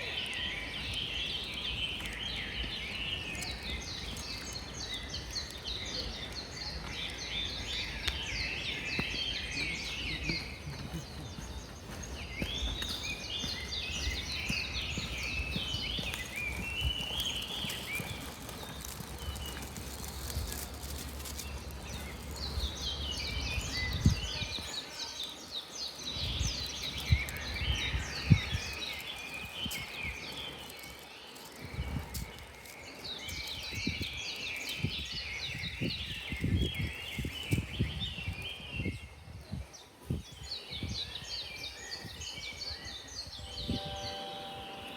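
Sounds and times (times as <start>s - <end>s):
birds chirping and warbling: 0.0s - 44.9s.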